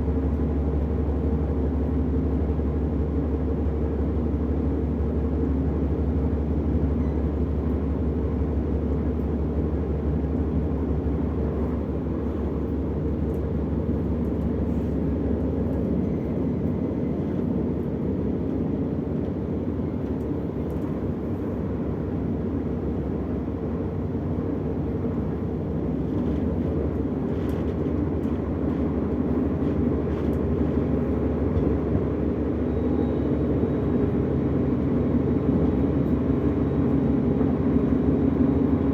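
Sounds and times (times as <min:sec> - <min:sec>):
train interior hum and rumble: 0:00.0 - 0:38.9.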